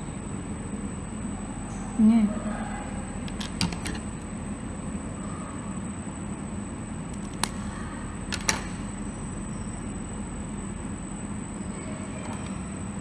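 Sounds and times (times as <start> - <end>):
faint high whine: 0.0 - 13.0
low background hum: 0.0 - 13.0.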